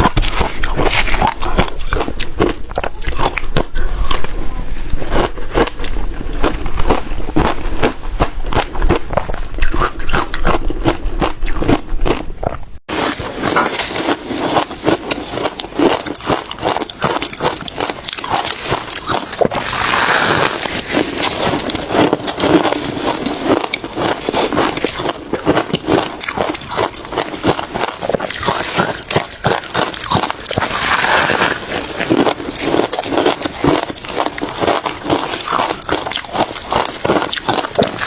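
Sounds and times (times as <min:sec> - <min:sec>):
ice crunching while chewed: 0:00.0 - 0:38.0.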